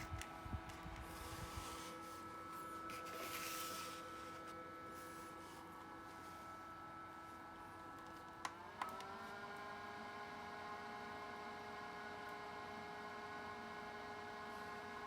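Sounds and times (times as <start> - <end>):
small fan motor whirring: 0.0 - 15.0.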